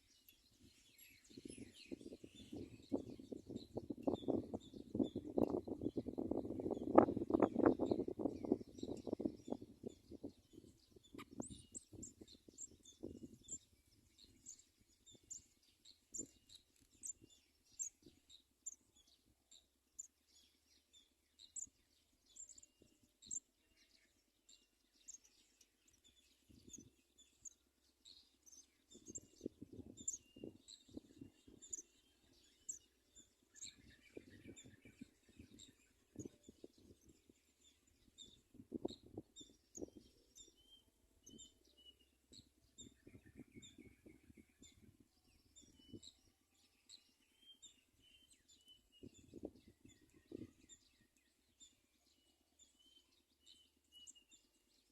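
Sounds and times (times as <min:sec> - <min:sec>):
faint high sparrow chirps: 0:00.0 - 0:54.9.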